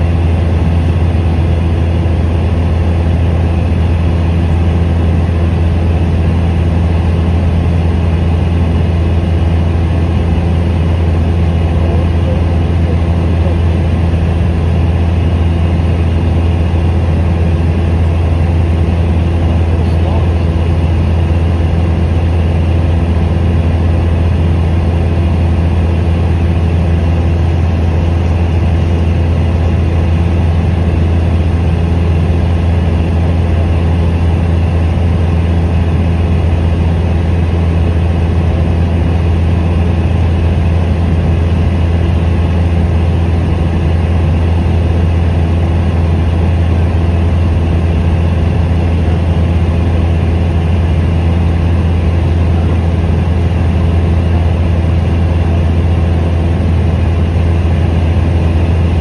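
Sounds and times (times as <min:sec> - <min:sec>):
light aircraft engine drone in cabin: 0:00.0 - 0:59.0.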